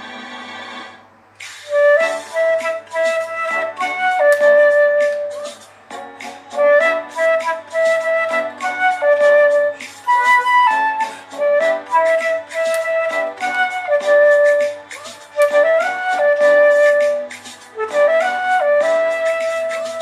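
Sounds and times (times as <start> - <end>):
flute playing a ballad melody: 1.6 - 5.7, 6.5 - 20.0.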